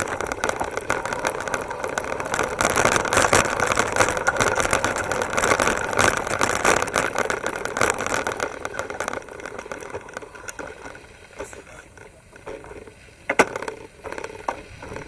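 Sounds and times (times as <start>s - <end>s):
bike frame rattling: 0.0s - 15.0s
riding noise rush: 0.0s - 15.0s.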